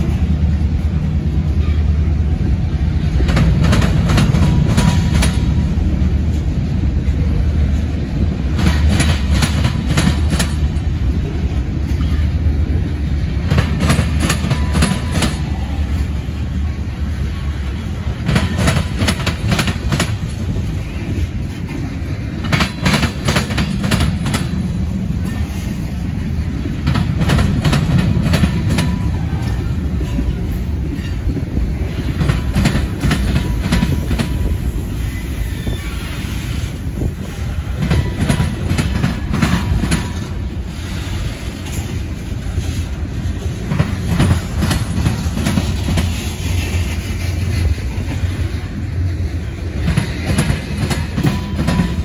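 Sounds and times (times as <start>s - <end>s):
train wheels rumbling: 0.0s - 52.0s
wheels clacking over rail joints: 0.0s - 52.0s.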